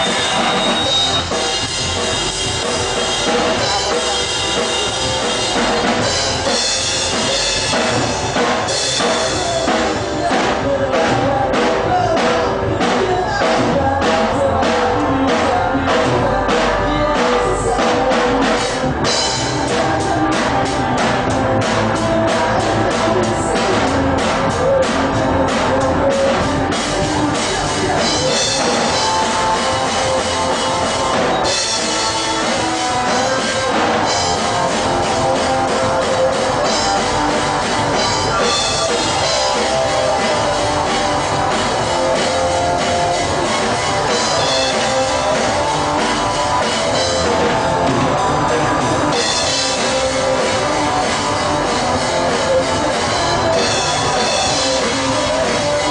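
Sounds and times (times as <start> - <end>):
rock band playing: 0.0 - 55.9
steady drum beat: 0.0 - 55.9.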